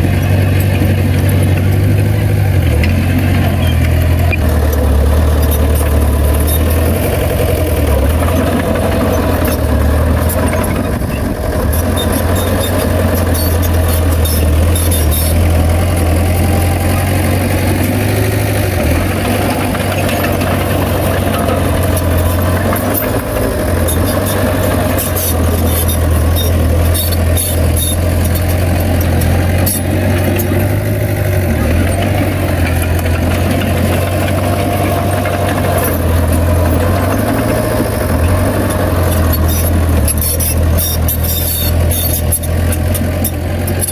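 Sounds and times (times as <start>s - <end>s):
heavy diesel engine rumbling: 0.0s - 43.9s.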